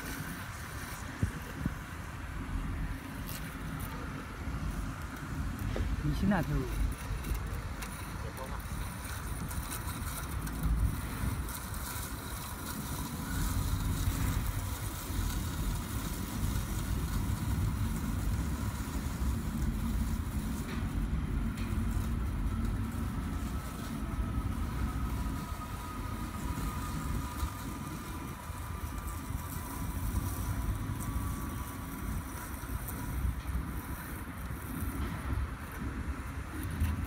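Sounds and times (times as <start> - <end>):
faint motor whine: 0.0 - 37.0.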